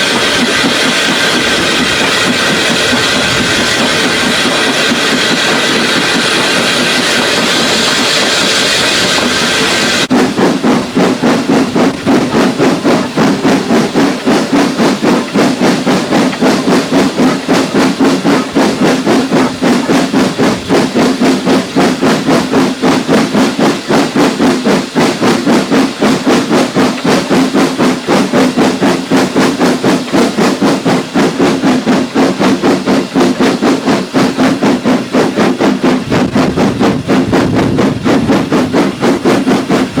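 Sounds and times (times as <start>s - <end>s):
steam hissing: 0.0s - 40.0s
steam locomotive exhaust beats: 0.0s - 40.0s.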